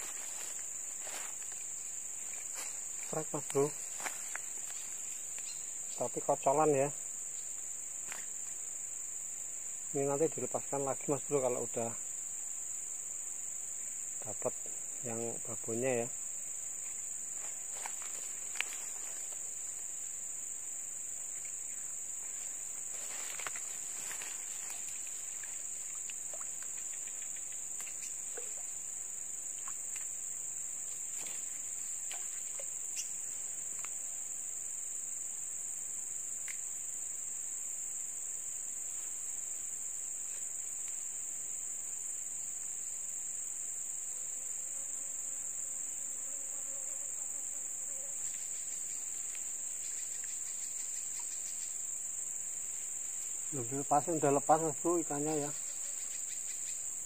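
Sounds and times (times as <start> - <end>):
faint ticks and rustles: 0.0 - 12.8, 13.7 - 34.3, 38.5 - 41.6, 46.3 - 57.0
high-pitched insect chorus: 0.0 - 57.0.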